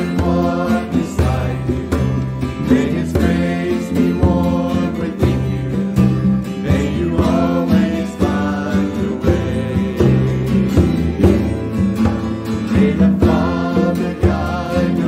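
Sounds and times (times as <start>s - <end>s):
live band playing gentle song: 0.0s - 15.0s
voices singing: 0.0s - 15.0s.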